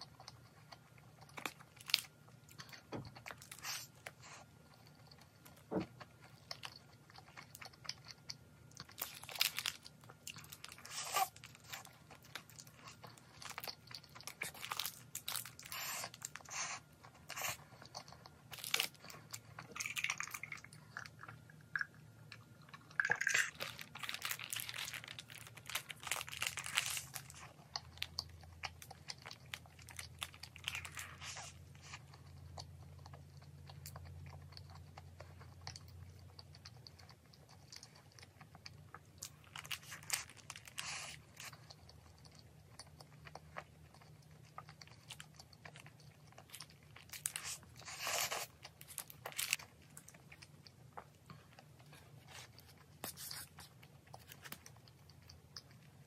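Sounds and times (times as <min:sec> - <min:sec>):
biting and chewing sandwich: 0:00.0 - 0:56.0
crunching toasted crust: 0:05.9 - 0:21.8, 0:22.8 - 0:55.9.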